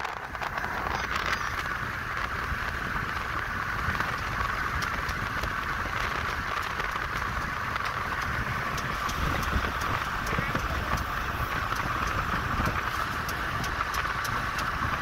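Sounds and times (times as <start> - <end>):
freight train rushing rumble: 0.0 - 15.0.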